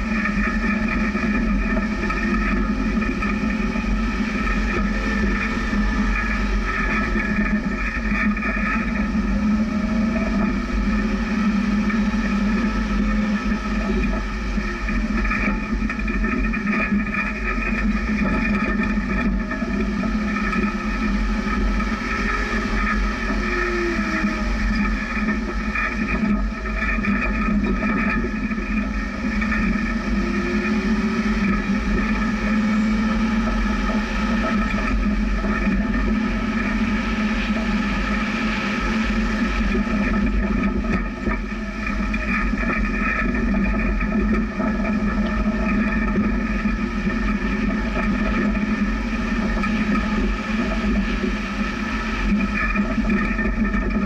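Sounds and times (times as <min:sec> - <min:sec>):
vehicle engine drone: 0:00.0 - 0:54.0.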